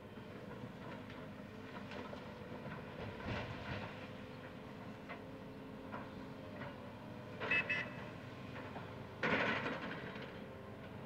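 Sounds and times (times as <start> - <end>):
excavator diesel engines running: 0.0 - 11.0.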